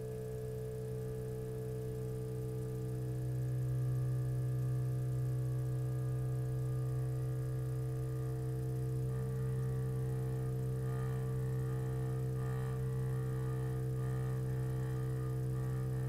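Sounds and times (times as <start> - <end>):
string vibrator humming: 0.0 - 16.0.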